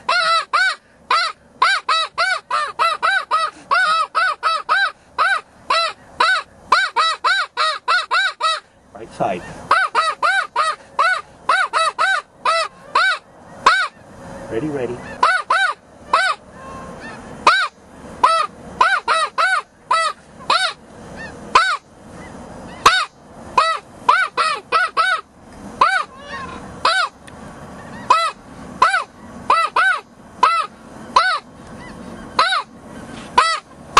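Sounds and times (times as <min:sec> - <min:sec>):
goose call high honks: 0:00.0 - 0:08.6, 0:09.4 - 0:27.2, 0:27.8 - 0:33.8.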